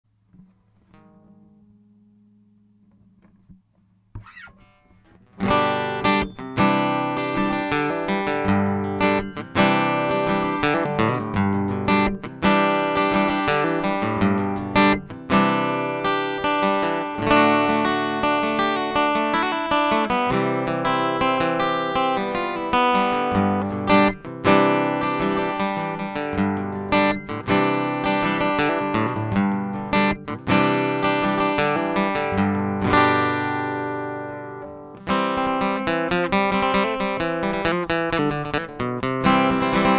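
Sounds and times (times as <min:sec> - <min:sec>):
acoustic guitar strummed in chords: 0:00.3 - 0:39.9.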